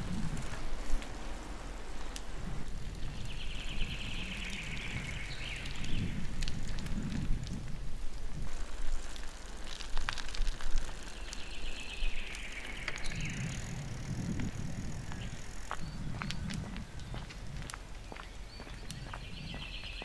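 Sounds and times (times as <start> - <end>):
bike clicks and rattles: 0.0 - 17.9
bicycle tyre noise: 0.0 - 20.0.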